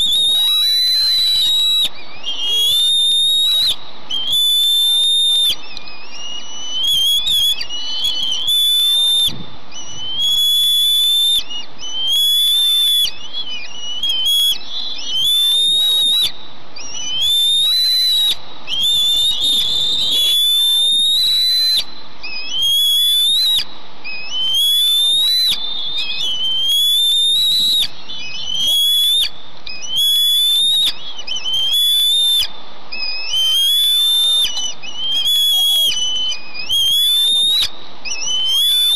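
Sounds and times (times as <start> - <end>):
eaglets high whistled calls: 0.0 - 38.9.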